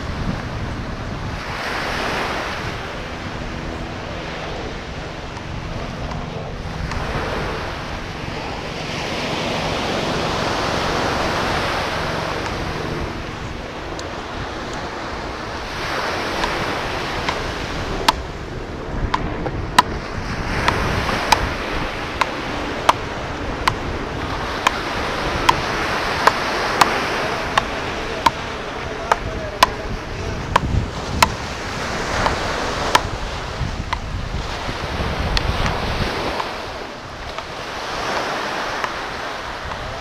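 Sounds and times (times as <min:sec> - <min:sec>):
ocean surf breaking: 0:00.0 - 0:40.0.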